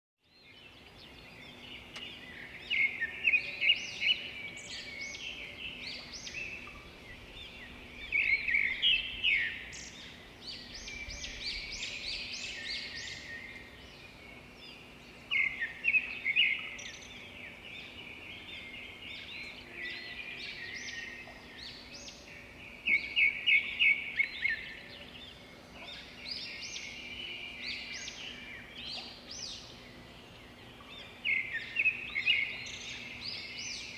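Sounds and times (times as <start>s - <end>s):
birds chirping: 0.3s - 33.9s.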